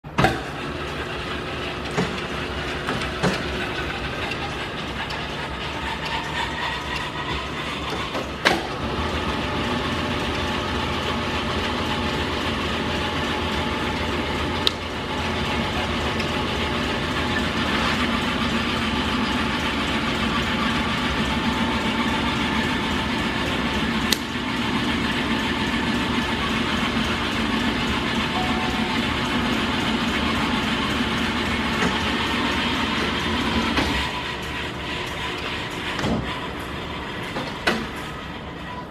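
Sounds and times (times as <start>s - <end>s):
lathe whirring and whining: 0.1s - 38.9s.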